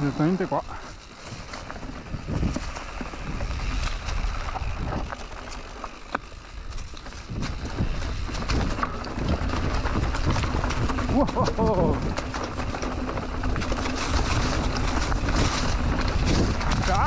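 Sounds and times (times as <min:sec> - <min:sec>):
bike tyres rolling on leaves: 0:00.0 - 0:17.0
wind rumbling on microphone: 0:00.0 - 0:17.0
bike clicks and knocks: 0:00.1 - 0:17.0.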